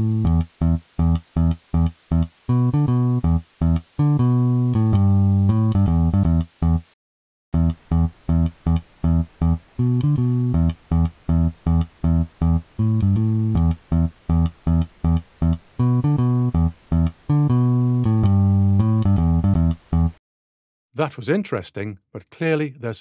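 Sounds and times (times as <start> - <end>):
bass guitar riff: 0.0 - 6.9, 7.6 - 20.2
soft noise hiss: 0.0 - 7.0, 7.6 - 20.2.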